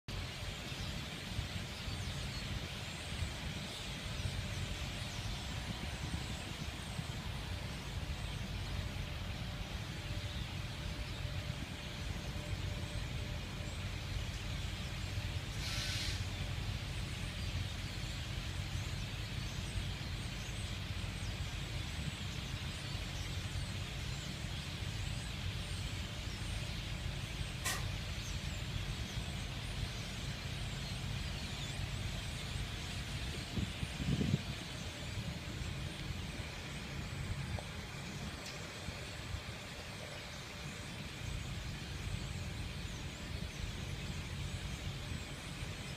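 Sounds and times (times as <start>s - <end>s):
vehicle rumble: 0.0s - 45.9s
flock of blackbirds chattering: 0.1s - 45.9s.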